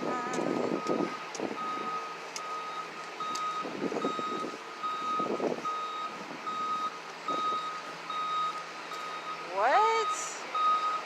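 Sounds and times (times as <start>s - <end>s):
street noise: 0.0s - 11.0s
reversing alarm beeping: 0.4s - 11.0s.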